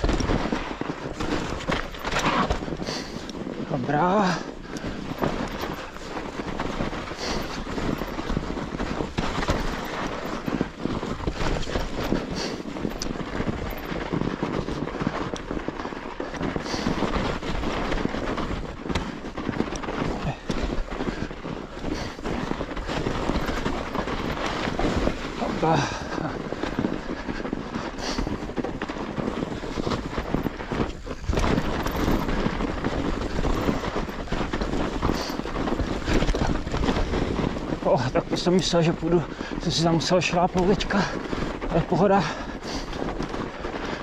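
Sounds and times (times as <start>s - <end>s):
bike clicks and rattles: 0.0s - 44.0s
bike tyres rolling on snow: 0.0s - 44.0s.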